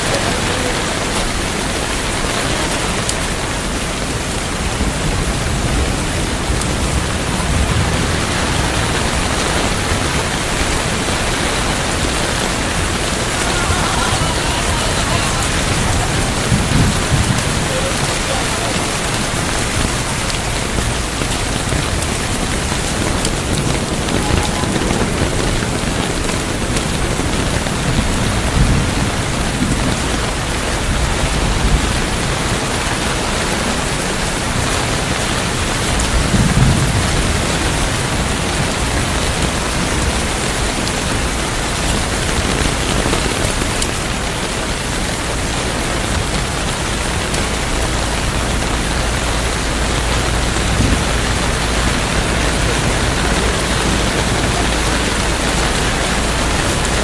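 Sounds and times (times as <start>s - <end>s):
heavy rain: 0.0s - 57.0s
thunder rumbling: 0.0s - 57.0s.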